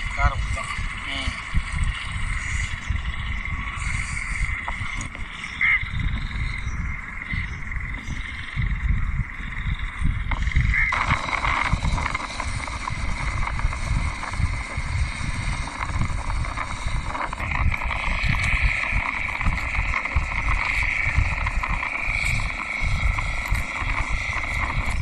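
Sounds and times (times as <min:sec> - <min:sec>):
steady high whine: 0:00.0 - 0:25.0
wind buffeting microphone: 0:00.0 - 0:25.0.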